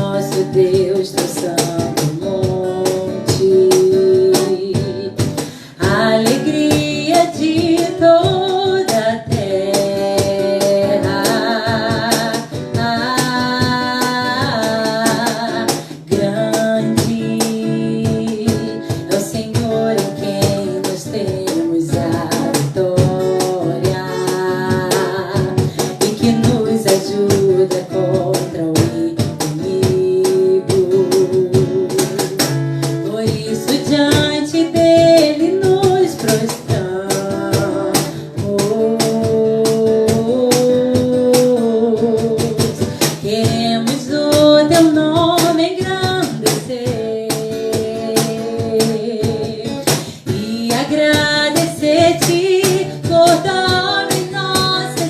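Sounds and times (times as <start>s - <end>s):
guitar: 0.0s - 55.0s
percussive beat: 0.0s - 55.0s
person singing: 0.0s - 55.0s.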